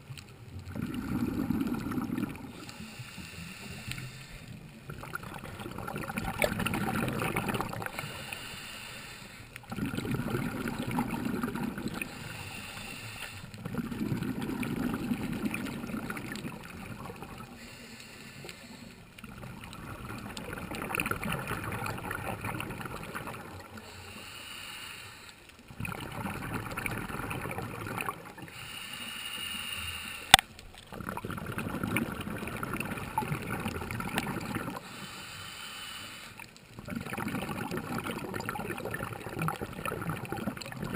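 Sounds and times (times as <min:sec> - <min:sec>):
scuba regulator breathing underwater: 0:00.6 - 0:15.9, 0:17.1 - 0:19.2, 0:23.3 - 0:40.4.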